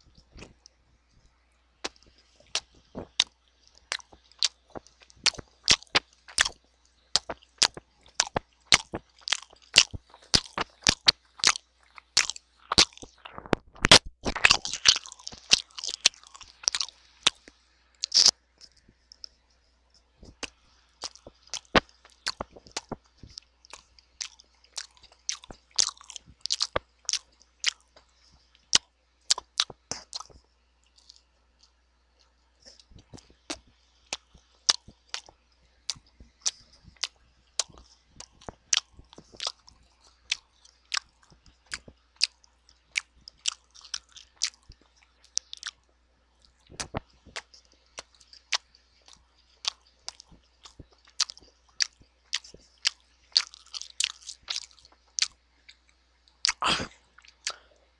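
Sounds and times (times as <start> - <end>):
person chewing crunchy food: 0.0 - 0.8, 1.8 - 19.4, 20.0 - 57.9.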